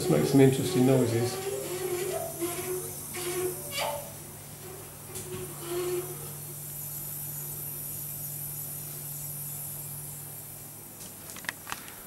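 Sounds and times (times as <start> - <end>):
refrigeration low hum: 0.0 - 12.0
refrigeration system hiss: 0.0 - 12.0.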